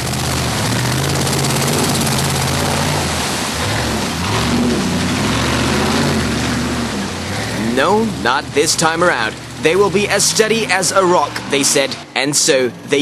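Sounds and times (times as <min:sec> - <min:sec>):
off-road vehicle engine under load: 0:00.0 - 0:13.0.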